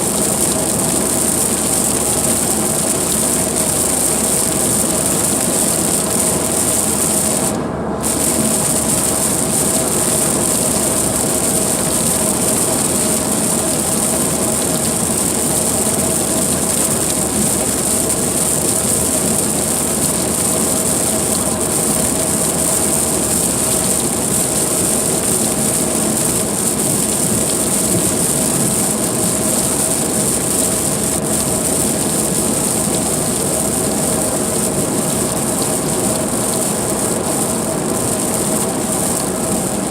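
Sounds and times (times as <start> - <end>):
heavy rain: 0.0 - 39.9
tyre spray on wet road: 0.0 - 39.9.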